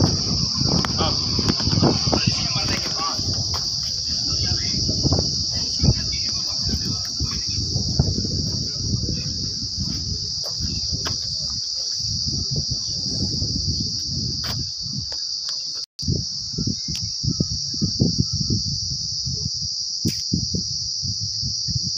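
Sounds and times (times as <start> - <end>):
insects buzzing: 0.0 - 21.9.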